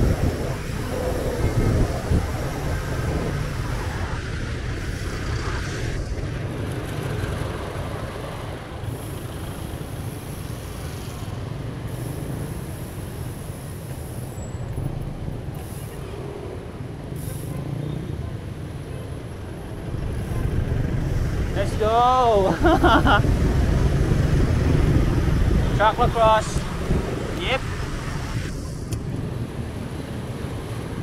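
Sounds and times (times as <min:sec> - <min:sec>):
slow road traffic rumble: 0:00.0 - 0:31.0.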